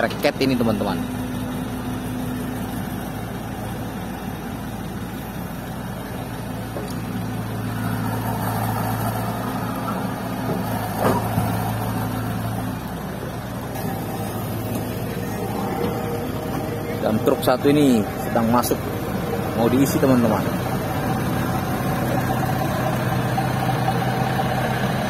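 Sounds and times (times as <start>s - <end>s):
excavator diesel engine working: 0.0s - 25.0s.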